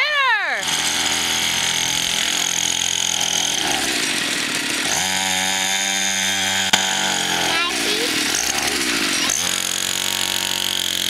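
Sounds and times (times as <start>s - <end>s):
small dirt bike engine: 0.0s - 11.0s.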